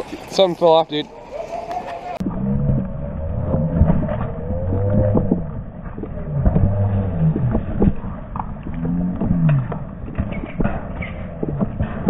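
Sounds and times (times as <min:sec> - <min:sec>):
low wavering droning tones: 0:02.2 - 0:12.0.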